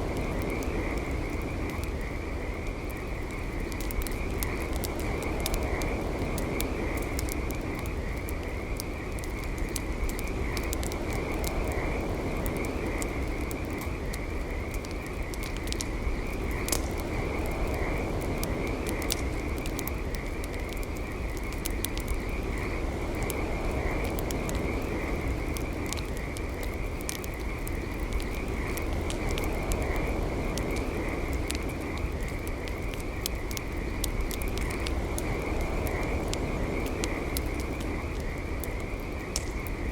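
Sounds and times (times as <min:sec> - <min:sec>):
campfire crackling and popping: 0:00.0 - 0:39.9
frogs trilling: 0:00.0 - 0:39.9.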